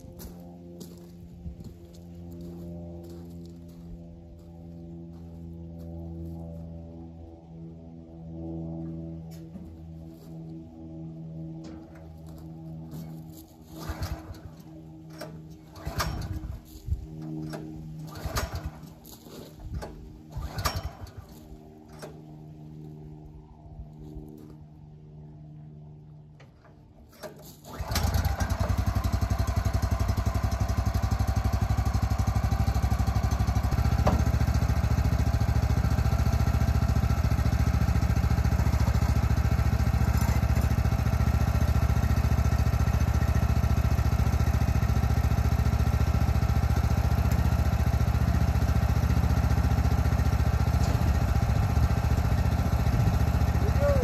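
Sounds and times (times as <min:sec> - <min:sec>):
engine starting and running: 0:00.0 - 0:54.0.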